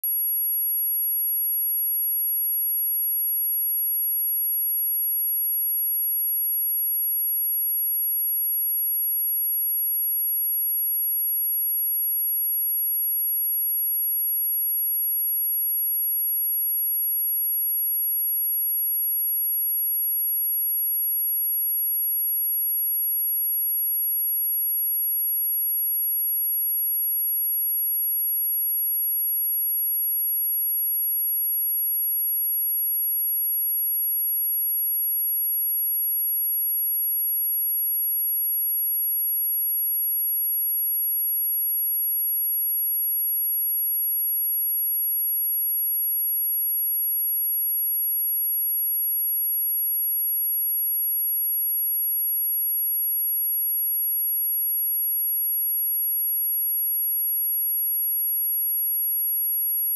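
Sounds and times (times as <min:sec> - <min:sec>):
high-pitched sine test tone: 0:00.0 - 0:59.9.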